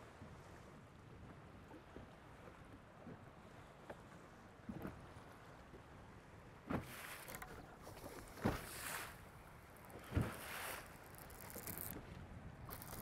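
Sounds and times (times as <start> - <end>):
small waves slapping boat hull: 0.2 - 13.0.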